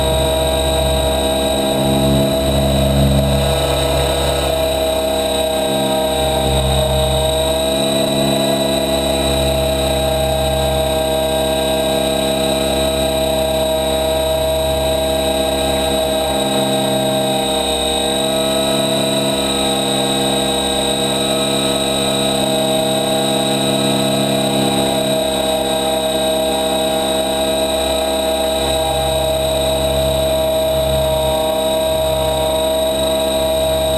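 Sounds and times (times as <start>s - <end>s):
helicopter turbine whine: 0.0s - 33.9s
rotor drone: 0.0s - 33.9s.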